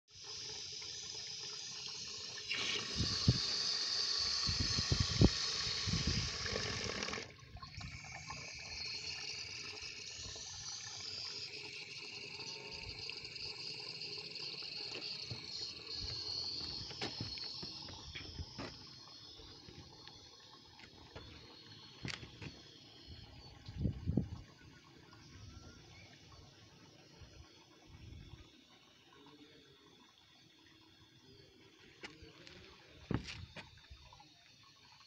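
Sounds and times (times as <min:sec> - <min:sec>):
water hissing through float valve: 0:00.1 - 0:35.0.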